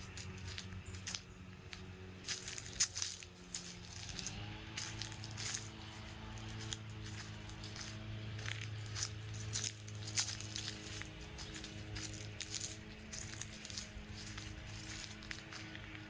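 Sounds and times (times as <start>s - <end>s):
footsteps walking: 0.0s - 16.0s
low steady drone: 0.0s - 16.0s.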